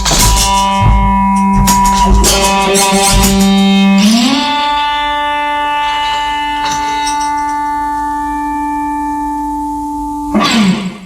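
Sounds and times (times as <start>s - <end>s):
sustained instrumental tone: 0.0s - 10.4s.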